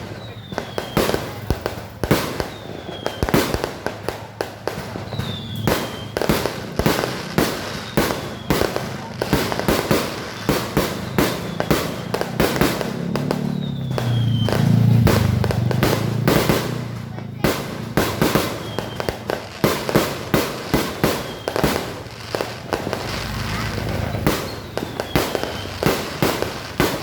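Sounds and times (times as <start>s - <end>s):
falling firework whistle: 0.0s - 16.7s, 17.4s - 27.0s
fireworks bangs: 0.0s - 27.0s.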